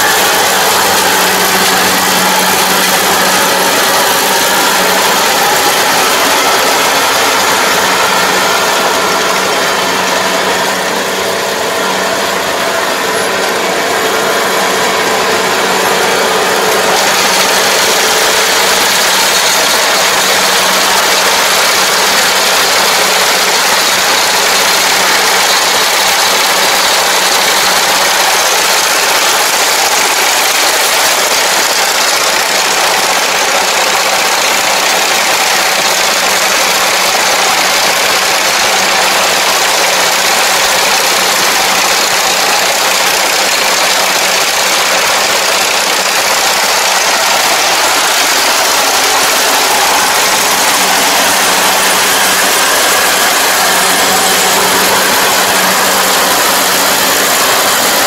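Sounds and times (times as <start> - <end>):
combine harvester engine hum: 0.0 - 58.0
threshing machinery rushing: 0.0 - 58.0.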